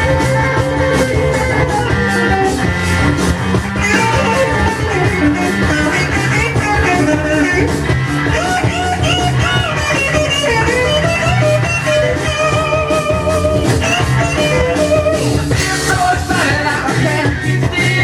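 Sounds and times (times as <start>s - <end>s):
blues-rock band playing: 0.0s - 18.0s
electric guitar bending notes: 0.0s - 18.0s.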